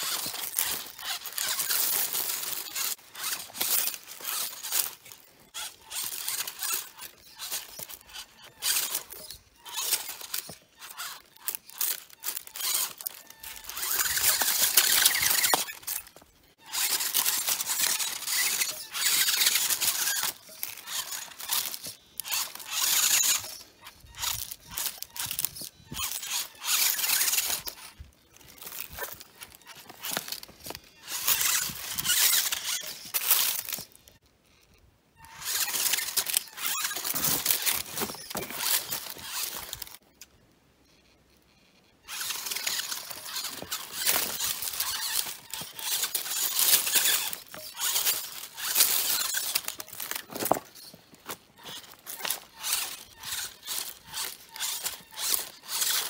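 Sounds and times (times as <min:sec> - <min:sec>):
tyres scraping on rock: 0:00.0 - 0:34.2, 0:35.2 - 0:40.0, 0:42.1 - 0:56.0
toy car motor whining: 0:00.0 - 0:40.0, 0:41.0 - 0:56.0.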